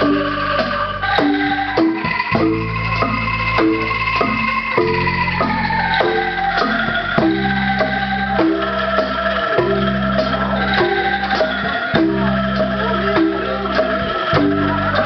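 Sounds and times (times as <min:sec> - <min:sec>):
bass guitar: 0:00.0 - 0:15.0
drums: 0:00.0 - 0:15.0
live band bamboo instruments: 0:00.0 - 0:15.0.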